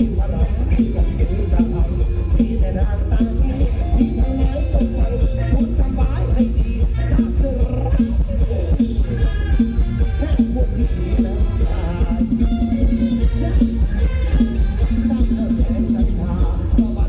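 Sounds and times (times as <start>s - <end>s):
band music with driving drum beat: 0.0s - 17.0s.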